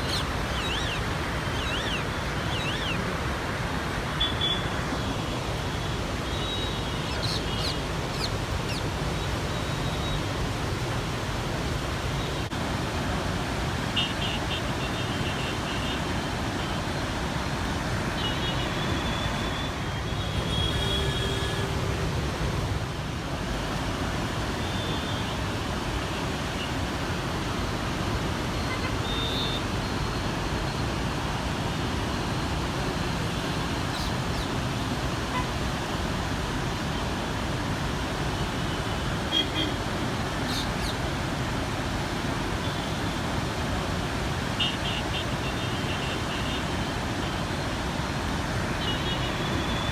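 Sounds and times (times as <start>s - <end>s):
road traffic: 0.0s - 49.9s.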